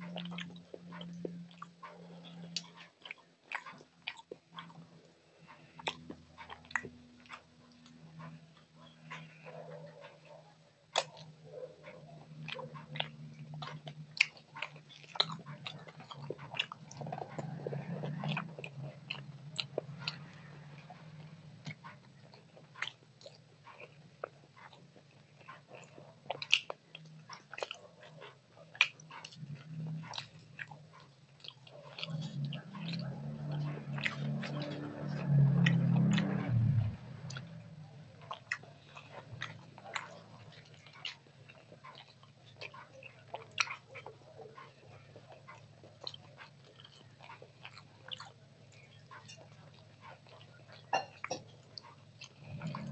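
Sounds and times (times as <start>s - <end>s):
chewing: 0.0s - 52.9s.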